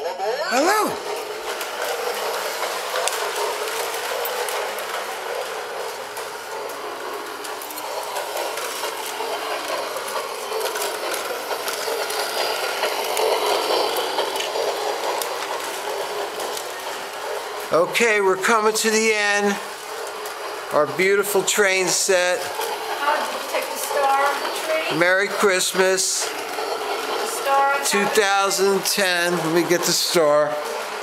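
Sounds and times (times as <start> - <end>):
toy train motor whirring: 0.0 - 31.0
wheels clicking on track: 0.0 - 31.0.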